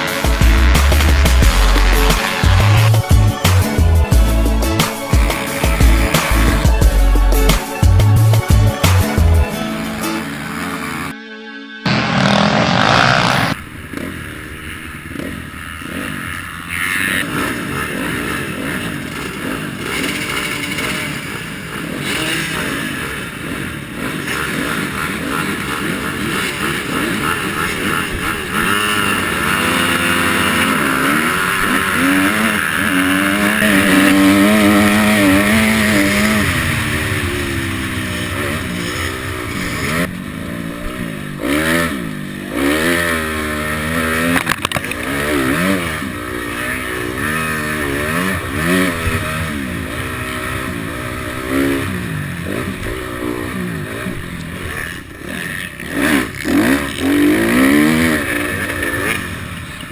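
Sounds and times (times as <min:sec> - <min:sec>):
motocross bike engines revving: 0:00.0 - 0:11.1, 0:11.9 - 0:59.9.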